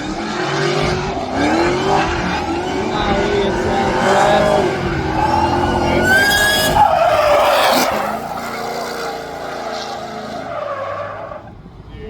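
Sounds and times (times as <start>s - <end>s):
car engine running: 0.0s - 12.0s
tyres squealing and skidding: 0.0s - 12.0s.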